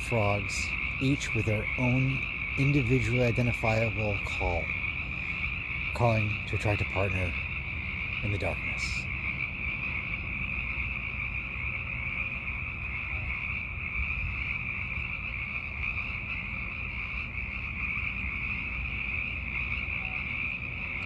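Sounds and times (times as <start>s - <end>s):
chorus of frogs calling: 0.0s - 21.0s.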